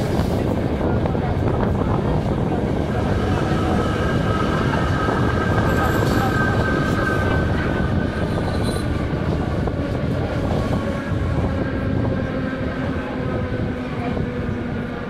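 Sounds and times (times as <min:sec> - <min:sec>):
wheels rumbling on track: 0:00.0 - 0:15.0.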